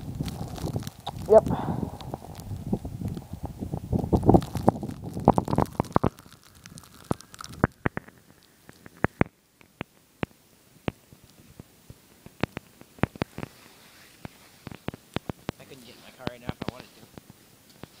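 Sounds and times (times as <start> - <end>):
sharp crunches and clicks: 0.0 - 11.4, 12.2 - 18.0.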